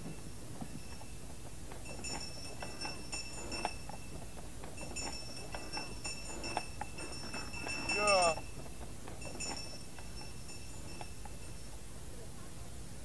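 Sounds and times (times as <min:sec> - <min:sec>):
harness bells jingling: 0:00.0 - 0:12.2.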